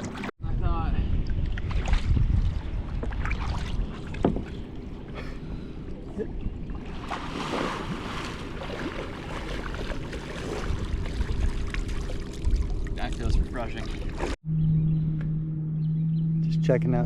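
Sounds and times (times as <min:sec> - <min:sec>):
water sounds: 0:00.0 - 0:00.3, 0:01.0 - 0:14.4
wind rumbling on microphone: 0:00.1 - 0:16.6.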